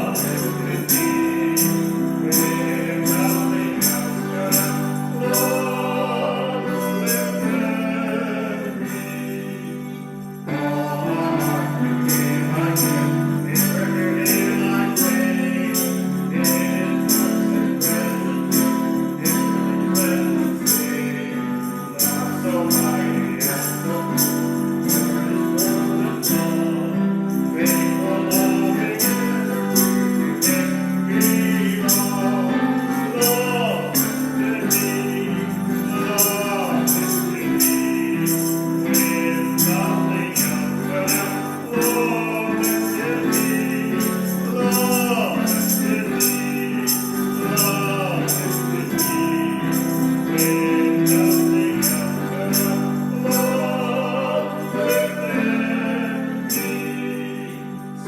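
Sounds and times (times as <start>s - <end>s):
congregation singing a hymn: 0.0s - 58.0s
tambourine jingling: 0.0s - 58.0s.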